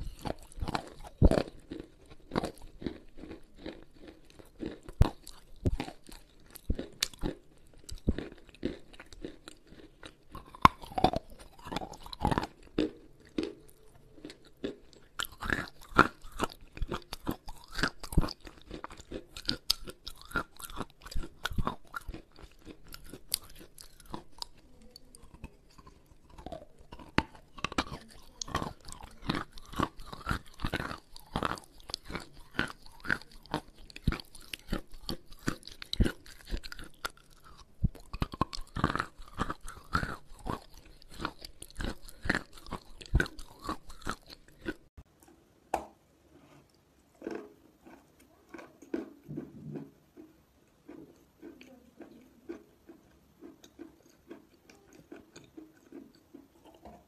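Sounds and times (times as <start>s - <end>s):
biting and chewing chalk: 0.0s - 45.4s, 46.6s - 57.0s.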